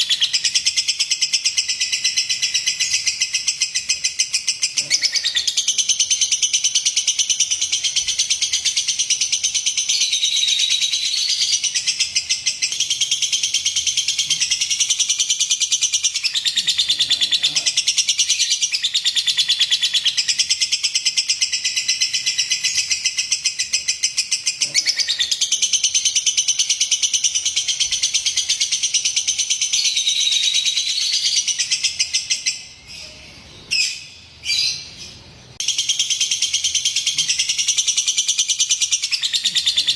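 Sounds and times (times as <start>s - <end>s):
lovebird chirping rapidly: 0.0s - 39.9s.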